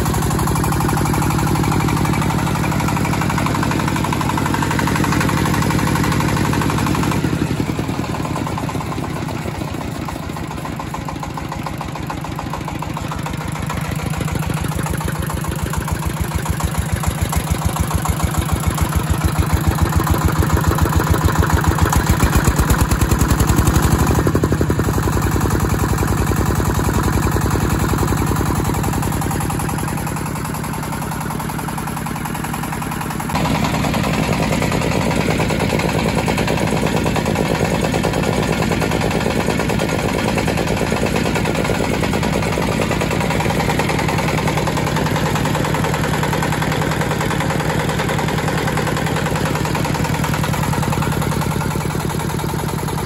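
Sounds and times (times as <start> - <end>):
diesel engine chugging: 0.0 - 53.0.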